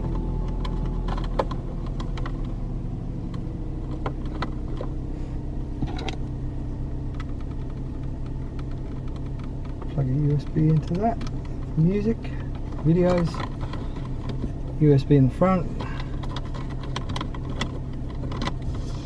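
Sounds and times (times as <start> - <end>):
clicks and taps on dashboard: 0.0 - 5.0, 5.6 - 19.0
car engine hum inside cabin: 0.0 - 19.0.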